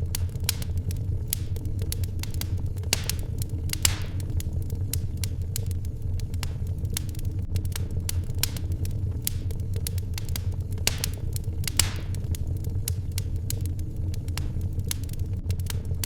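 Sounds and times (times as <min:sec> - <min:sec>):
fire low rumble: 0:00.0 - 0:16.0
wood fire crackling: 0:00.0 - 0:16.0.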